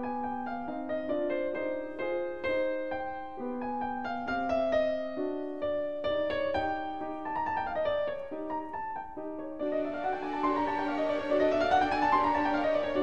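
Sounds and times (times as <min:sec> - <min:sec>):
solo classical piano piece: 0:00.0 - 0:13.0.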